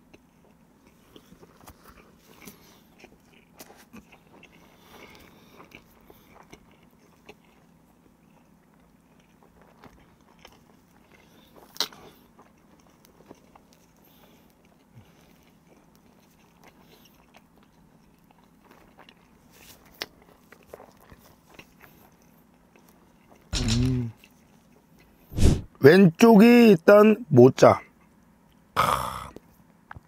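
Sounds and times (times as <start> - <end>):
person chewing with mouth closed: 0.0 - 25.2.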